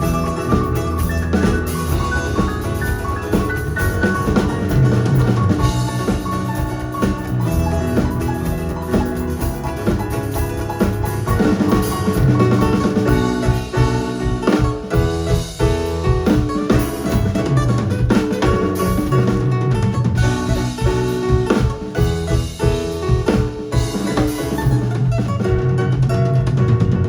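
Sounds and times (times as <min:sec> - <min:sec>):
drum kit beat: 0:00.0 - 0:27.0
live band playing: 0:00.0 - 0:27.0.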